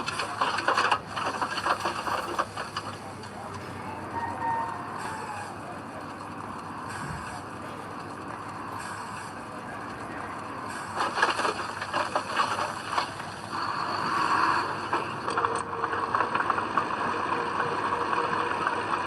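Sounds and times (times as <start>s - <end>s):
heavy machinery running: 0.0s - 19.0s.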